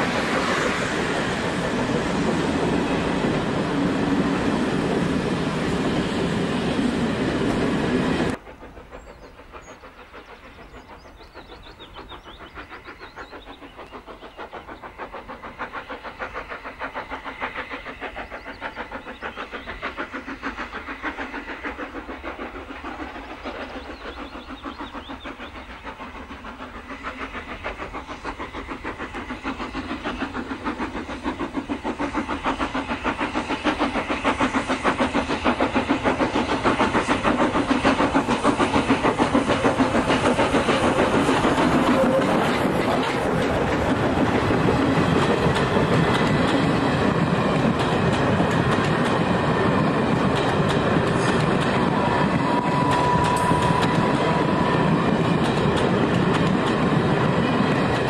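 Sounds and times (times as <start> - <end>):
steam locomotive exhaust beating: 0.0 - 58.0.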